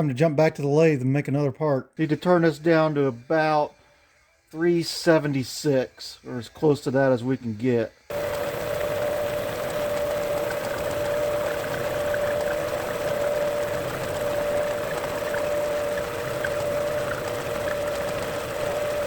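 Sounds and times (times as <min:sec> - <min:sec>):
metal lathe hissing and whining: 0:02.3 - 0:19.0.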